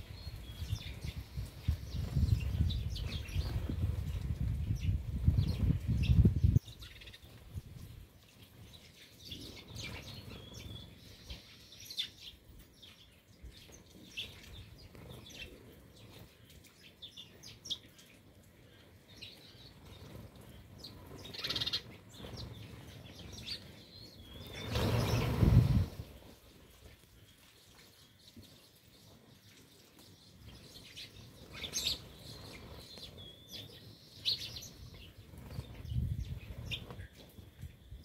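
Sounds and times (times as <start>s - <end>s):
wings fluttering: 0.0s - 12.7s, 19.1s - 38.0s
sparrows chirping: 0.0s - 38.0s.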